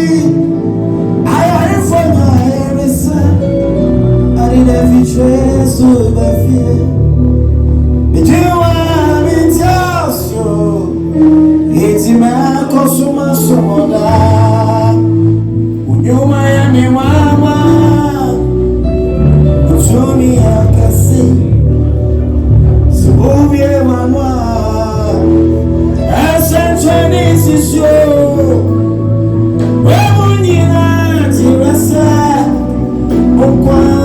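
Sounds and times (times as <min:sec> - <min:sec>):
person singing: 0:00.0 - 0:07.2, 0:08.0 - 0:34.0
bass and keyboard chords: 0:00.0 - 0:34.0.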